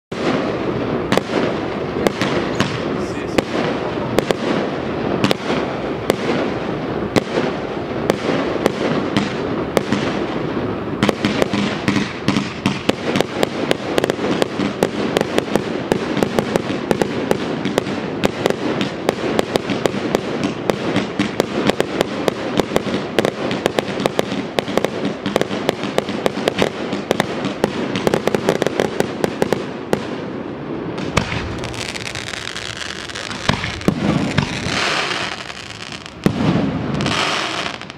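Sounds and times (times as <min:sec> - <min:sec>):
fireworks bangs and crackles: 0:00.1 - 0:37.9.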